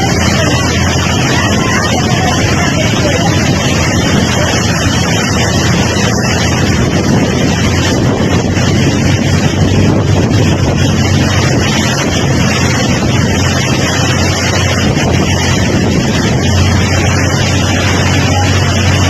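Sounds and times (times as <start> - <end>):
rushing floodwater: 0.0 - 19.0
steady low rumble: 0.0 - 19.0
wind buffeting microphone: 0.0 - 19.0.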